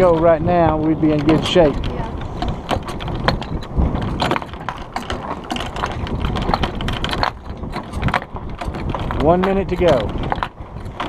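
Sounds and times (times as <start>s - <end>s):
rigging clicks and knocks: 0.0s - 11.0s
sails luffing: 0.0s - 11.0s
wind on microphone: 0.0s - 11.0s.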